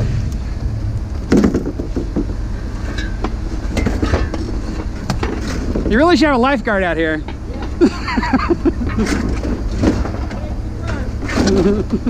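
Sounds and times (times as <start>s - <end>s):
vehicle driving rumble: 0.0s - 12.0s.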